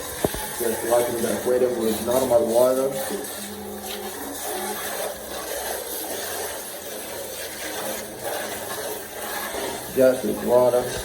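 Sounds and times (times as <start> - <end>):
hand rubbing tank: 0.0 - 11.0
water splashing: 0.0 - 11.0.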